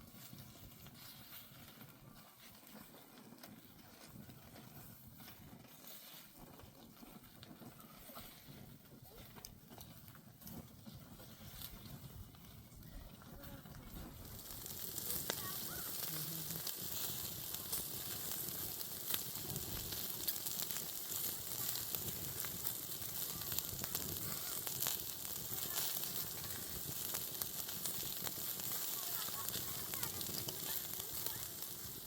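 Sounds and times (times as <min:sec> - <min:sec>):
meat sizzling over fire: 0:00.0 - 0:32.0.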